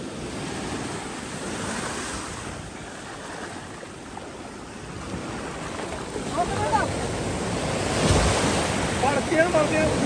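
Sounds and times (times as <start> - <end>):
sea waves washing: 0.0 - 10.0
wind on microphone: 0.0 - 10.0.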